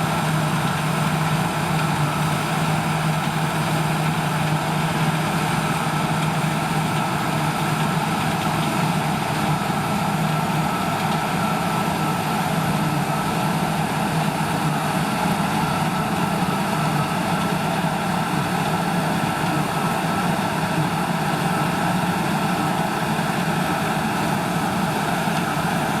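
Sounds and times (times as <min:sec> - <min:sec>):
diesel machinery droning: 0:00.0 - 0:26.0
steady machine whine: 0:00.0 - 0:26.0.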